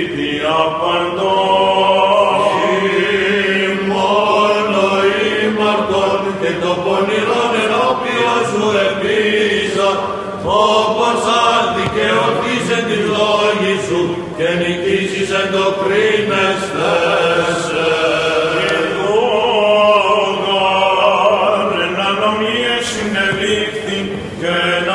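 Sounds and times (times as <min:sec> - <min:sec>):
held vocal drone: 0:00.0 - 0:24.9
melismatic chanting voice: 0:00.0 - 0:24.9.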